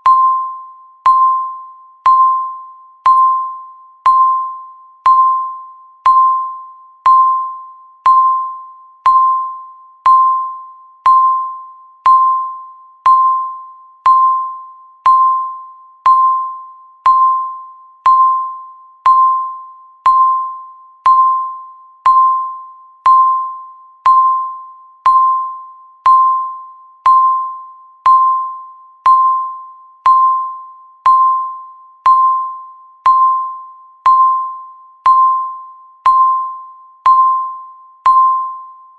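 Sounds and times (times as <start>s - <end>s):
countdown timer beeps: 0.0s - 38.9s.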